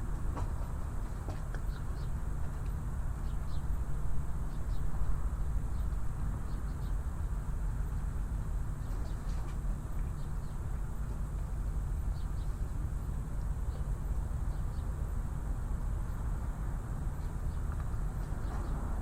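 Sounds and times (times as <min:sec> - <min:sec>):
low harbour rumble: 0:00.0 - 0:19.0.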